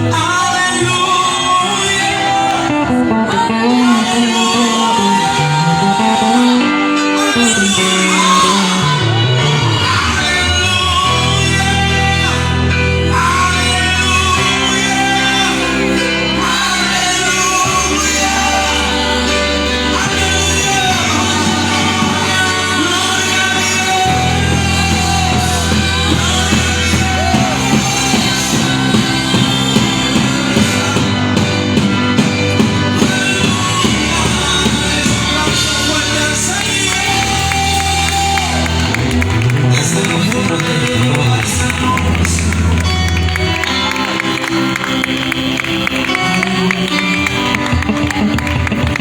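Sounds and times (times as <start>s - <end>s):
people singing: 0.0s - 49.0s
worship band playing: 0.0s - 49.0s.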